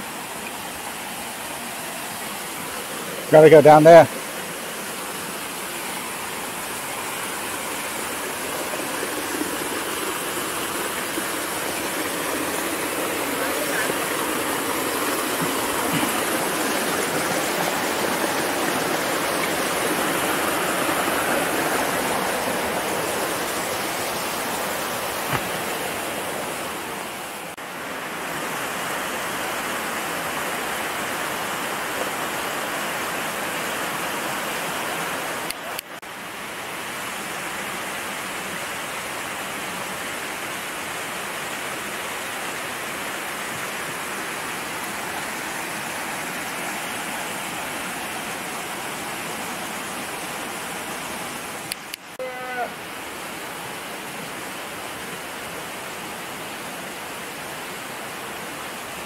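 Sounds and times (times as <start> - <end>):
water rushing: 0.0 - 59.0.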